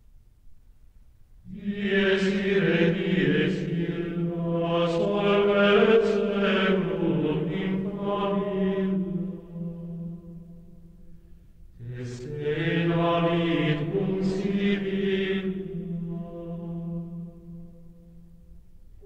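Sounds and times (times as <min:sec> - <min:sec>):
low-pitched chanting: 0:01.4 - 0:19.0.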